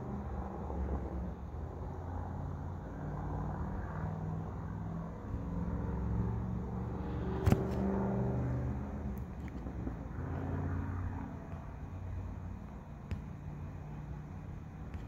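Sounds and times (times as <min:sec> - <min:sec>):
motor running with low rumble: 0:00.0 - 0:15.0.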